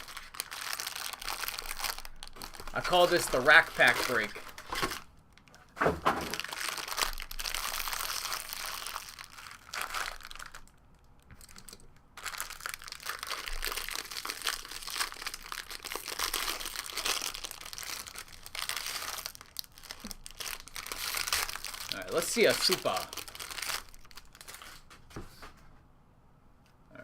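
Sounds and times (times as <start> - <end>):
plastic wrapping crinkling and tearing: 0.0 - 25.0.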